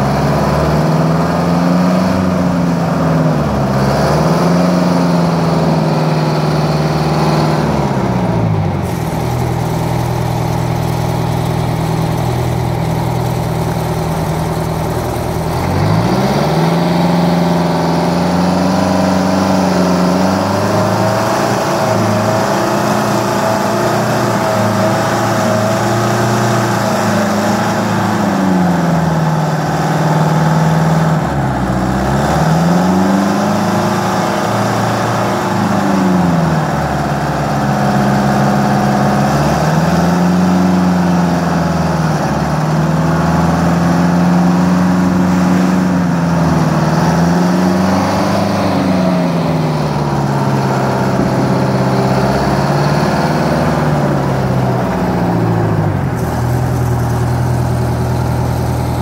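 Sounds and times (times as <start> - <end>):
wheel loader diesel engine working: 0.0 - 59.0.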